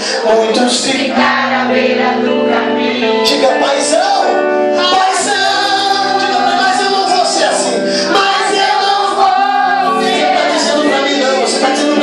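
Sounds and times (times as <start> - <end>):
held instrumental chords: 0.0 - 12.0
man singing into a microphone: 0.0 - 12.0.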